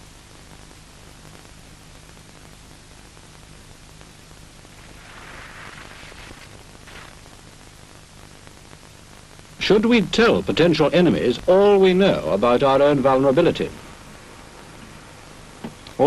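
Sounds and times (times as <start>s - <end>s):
faint low hum: 0.0s - 16.0s
film soundtrack hiss: 0.0s - 16.0s.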